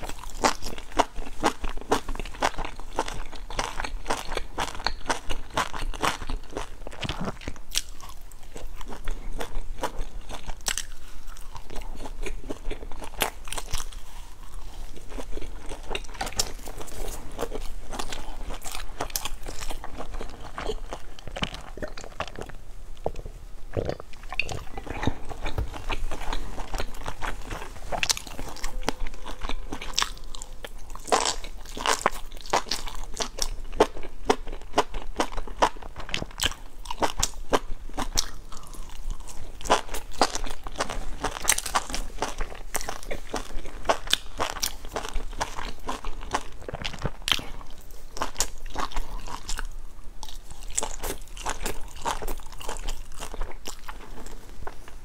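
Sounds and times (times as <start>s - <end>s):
person chewing crunchy food: 0.0s - 55.0s.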